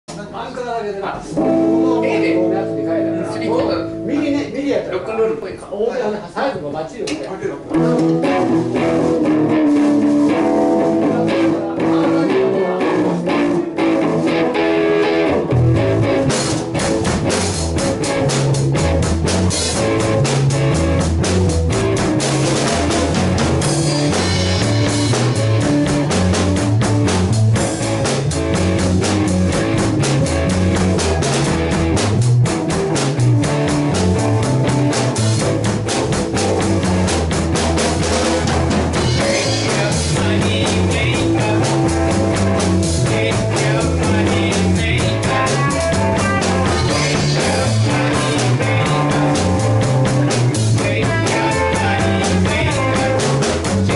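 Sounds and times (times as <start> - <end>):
rock band playing: 1.0 - 5.4, 7.6 - 53.9
electric guitar: 1.2 - 4.6, 7.6 - 53.9.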